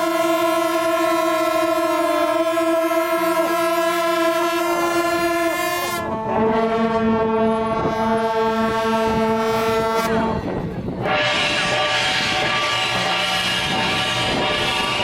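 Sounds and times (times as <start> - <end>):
horns blowing long blasts: 0.0 - 15.0.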